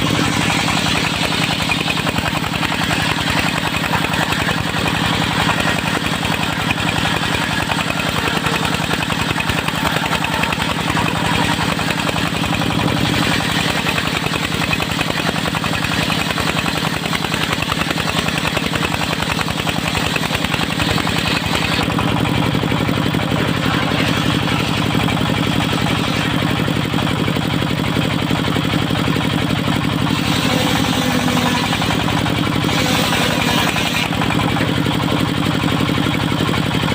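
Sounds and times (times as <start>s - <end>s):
saw mill engine running: 0.0s - 36.9s.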